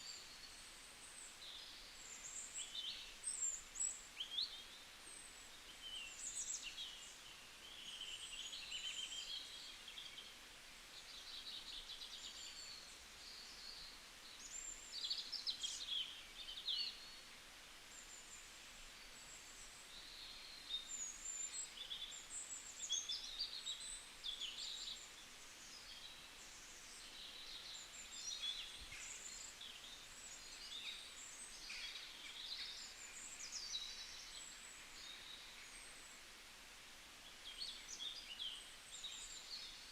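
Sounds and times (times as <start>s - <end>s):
faint outdoor hiss: 0.0s - 39.9s
songbirds chirping: 0.0s - 39.9s.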